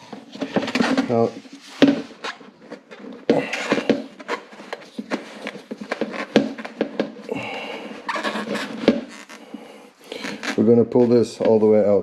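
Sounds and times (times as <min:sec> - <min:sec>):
hard plastic knocking and scraping: 0:00.0 - 0:11.7.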